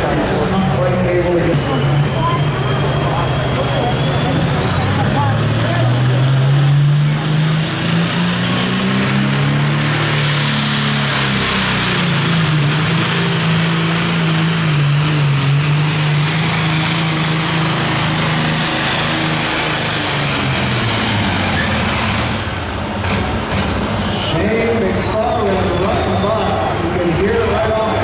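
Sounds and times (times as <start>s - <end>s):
diesel tractor engine at full load: 0.0s - 28.0s
turbocharger whine: 0.0s - 28.0s.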